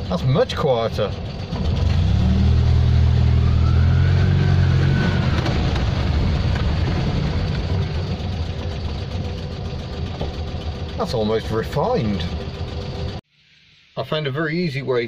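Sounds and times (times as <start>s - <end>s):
car engine from inside cabin: 0.0s - 13.2s.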